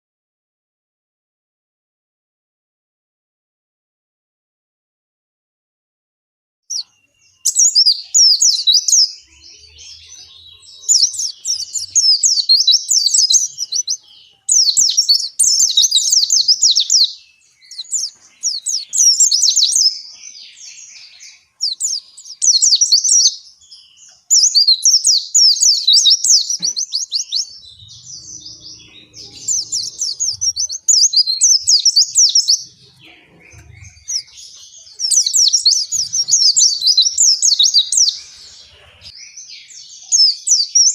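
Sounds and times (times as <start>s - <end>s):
bird twittering song: 6.7s - 40.9s.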